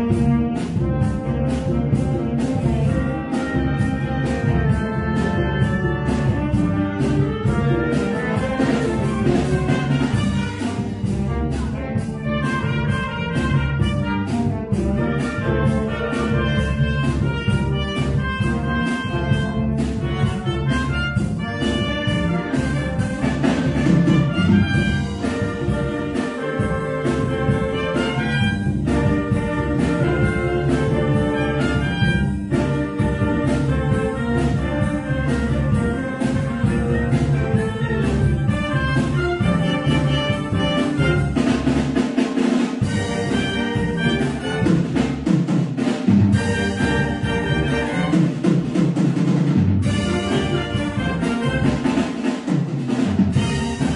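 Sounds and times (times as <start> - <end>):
percussion beat: 0.0 - 53.9
wind band playing: 0.0 - 53.9.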